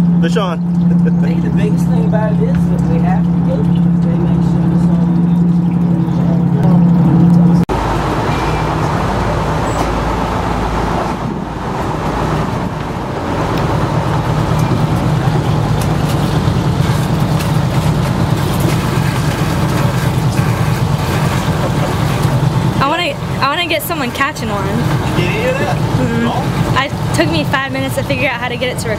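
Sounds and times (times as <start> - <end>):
boat engine humming: 0.0 - 28.9
water wash: 0.0 - 28.9.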